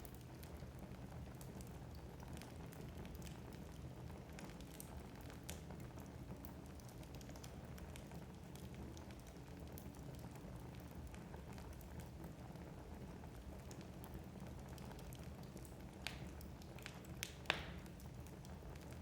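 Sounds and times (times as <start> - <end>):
burning logs crackling: 0.0 - 19.0
flames rumbling: 0.0 - 19.0.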